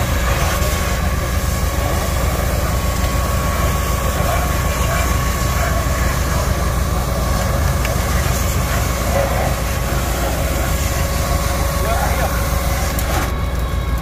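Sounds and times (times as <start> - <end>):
water spray hissing: 0.0 - 13.0
heavy engine running: 0.0 - 14.0.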